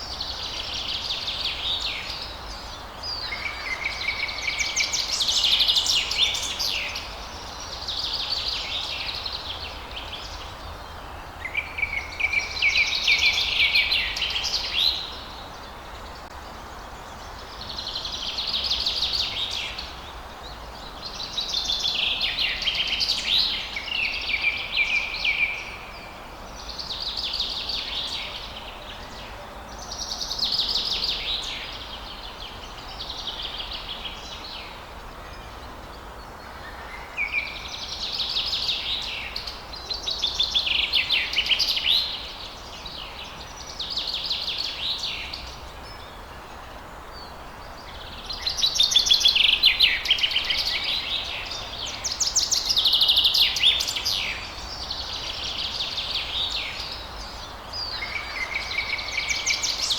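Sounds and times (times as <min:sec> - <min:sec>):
faint background hiss: 0:00.0 - 0:59.9
songbirds chirping and trilling: 0:00.0 - 0:59.9.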